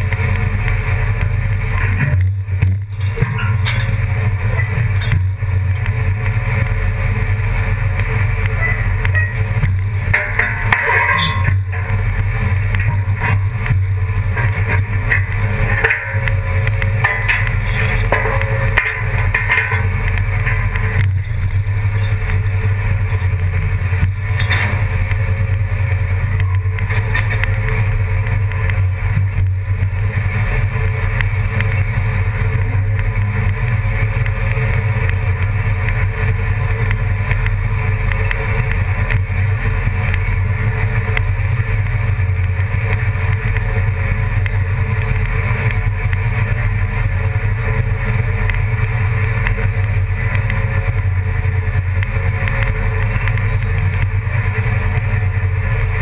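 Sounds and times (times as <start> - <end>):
engine droning steadily: 0.0 - 56.0.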